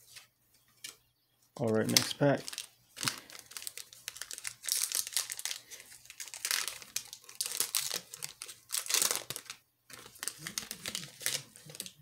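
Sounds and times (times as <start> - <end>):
foil wrapper crinkling and tearing: 1.9 - 12.0.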